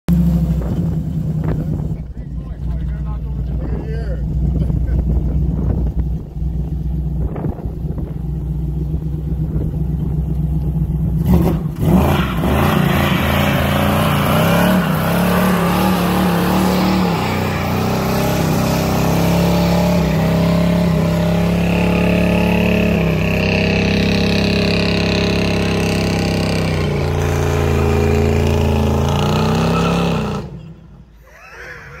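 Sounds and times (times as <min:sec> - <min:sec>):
car engine idling and revving: 0:00.1 - 0:31.2.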